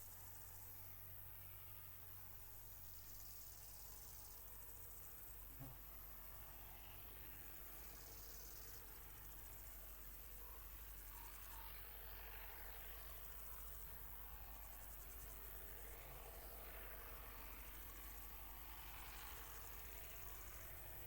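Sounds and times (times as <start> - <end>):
crickets chirping: 2.4 - 5.5, 7.2 - 21.0.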